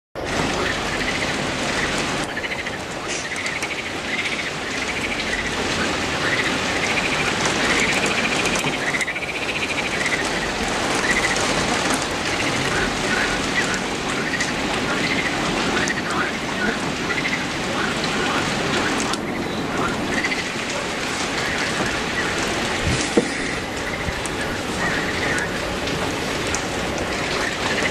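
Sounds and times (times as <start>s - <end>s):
rain falling on leafy trees: 0.2s - 27.9s.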